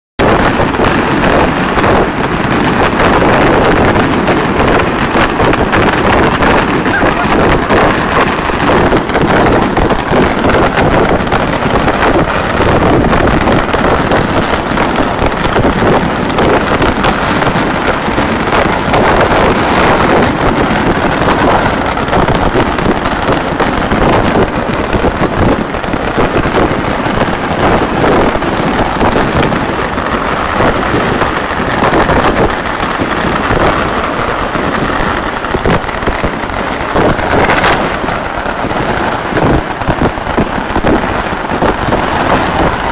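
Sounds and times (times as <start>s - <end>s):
fireworks crackling and banging: 0.2s - 42.9s.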